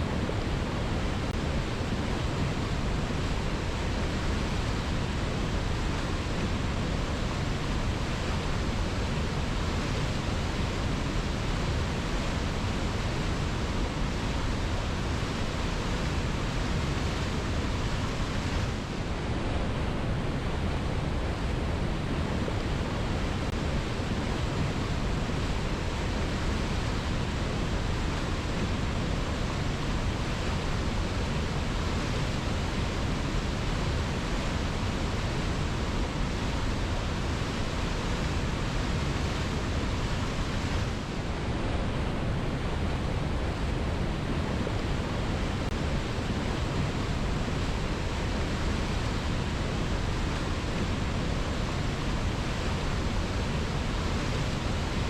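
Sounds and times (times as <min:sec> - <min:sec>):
waterfall over rocks: 0:00.0 - 0:55.0.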